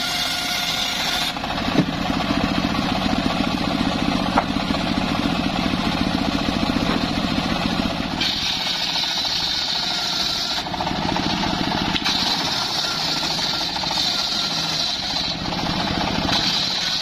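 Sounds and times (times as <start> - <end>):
circular saw whining through wood: 0.0 - 17.0
engine running steadily: 0.0 - 17.0.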